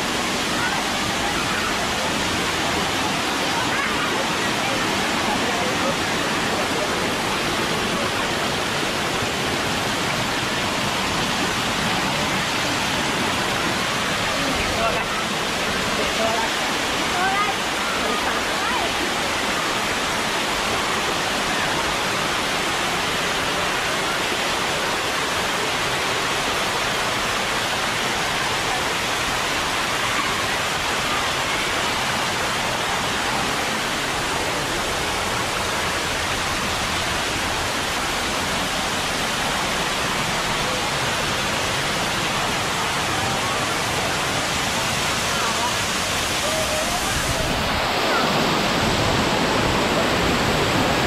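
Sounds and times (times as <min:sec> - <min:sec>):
waterfall rushing over rock: 0:00.0 - 0:51.0.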